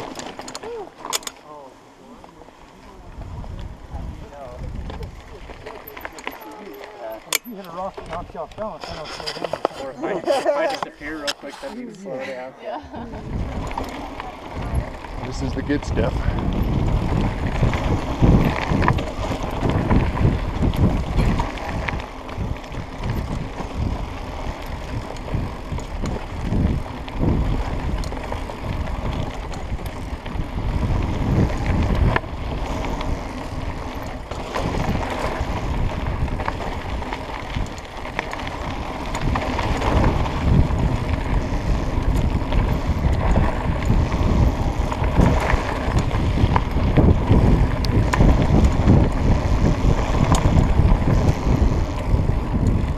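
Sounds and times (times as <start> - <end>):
tyres rumbling on dirt: 0.0 - 12.3, 12.9 - 52.9
wind buffeting microphone: 3.0 - 7.2, 12.8 - 52.9.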